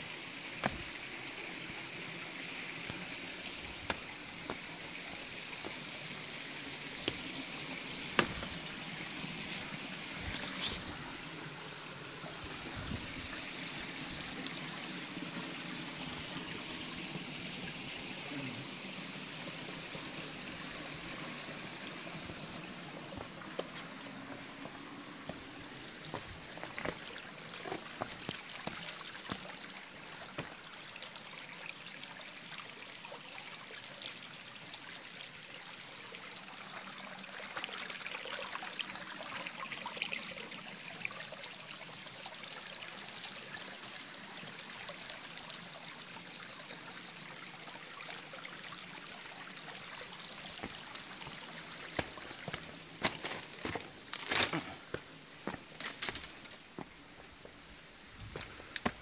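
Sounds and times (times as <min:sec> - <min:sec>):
stream trickling over rocks: 0:00.0 - 0:59.0.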